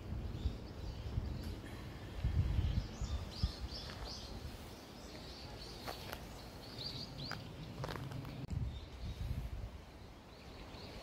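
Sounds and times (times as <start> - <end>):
wind buffeting microphone: 0.0 - 5.6, 6.2 - 11.0
small birds chirping: 0.0 - 11.0.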